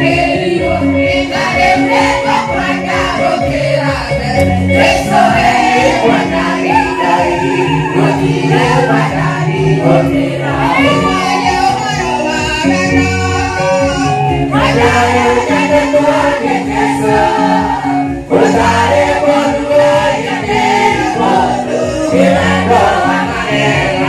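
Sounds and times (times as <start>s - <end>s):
congregation singing: 0.0s - 24.0s
instrumental backing with beat: 0.0s - 24.0s.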